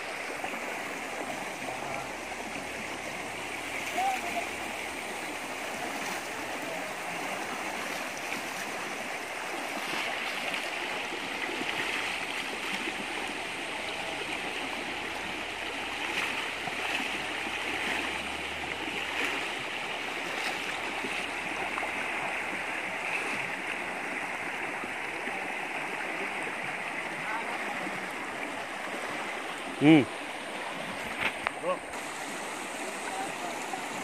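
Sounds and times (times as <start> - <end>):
stream rushing over stones: 0.0 - 34.0.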